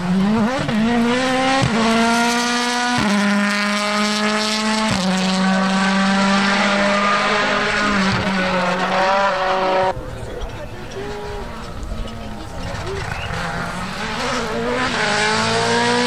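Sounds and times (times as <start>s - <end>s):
car engine revving high: 0.0s - 10.0s, 11.0s - 16.0s
gear changes: 0.0s - 16.0s.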